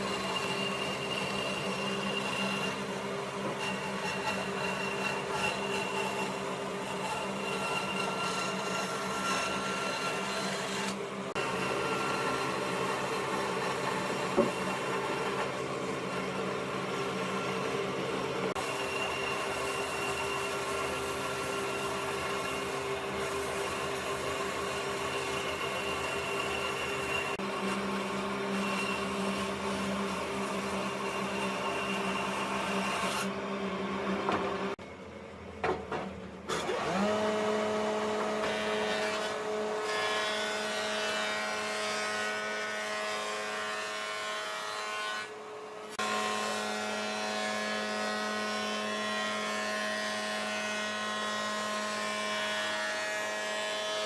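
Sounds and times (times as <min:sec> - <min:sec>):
power tool cutting wood: 0:00.0 - 0:33.4, 0:36.5 - 0:54.0.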